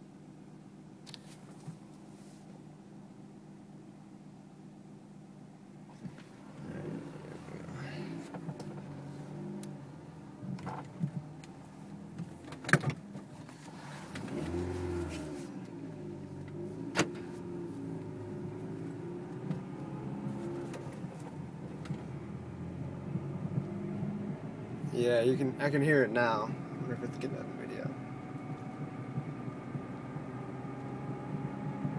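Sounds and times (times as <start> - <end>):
car engine and road drone: 0.0 - 31.9.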